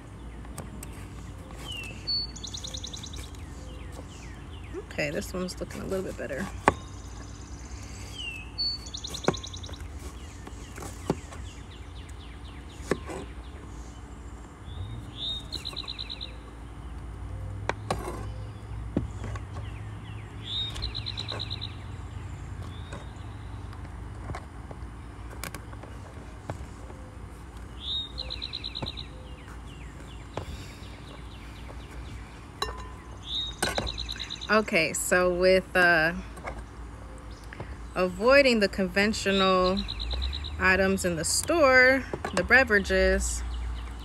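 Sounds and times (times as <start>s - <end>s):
songbird singing trill: 0.0s - 24.1s, 26.6s - 44.0s.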